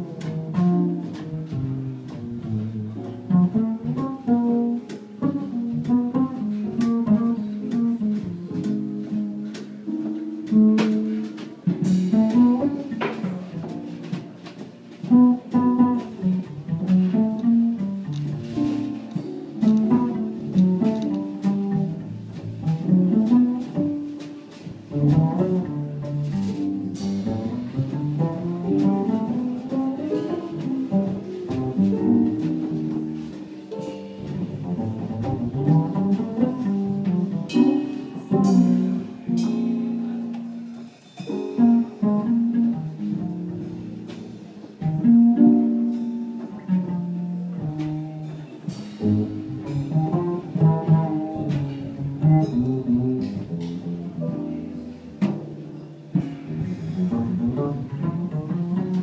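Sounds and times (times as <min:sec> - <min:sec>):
double bass solo: 0:00.0 - 0:59.0.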